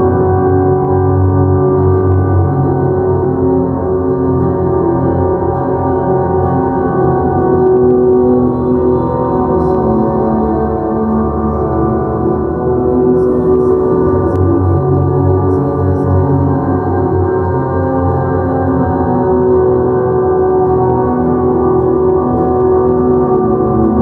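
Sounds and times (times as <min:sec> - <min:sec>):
ambient drone music: 0:00.0 - 0:24.0.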